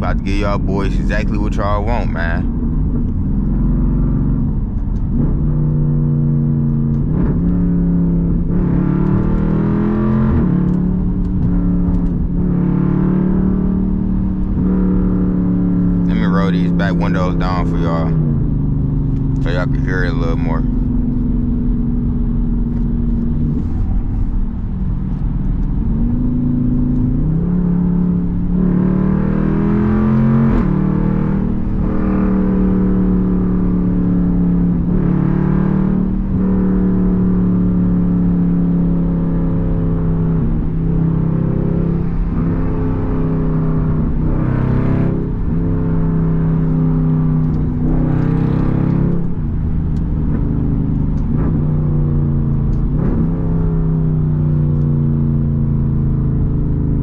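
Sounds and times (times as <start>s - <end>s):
car exhaust accelerating through gears: 0.0s - 57.0s.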